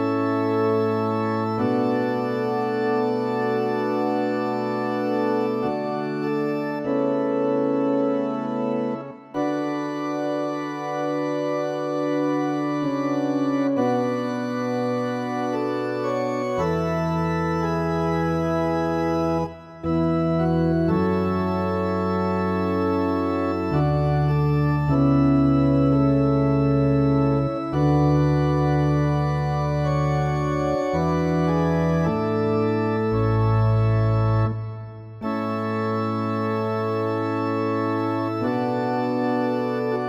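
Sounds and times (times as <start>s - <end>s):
organ chords: 0.0s - 40.0s.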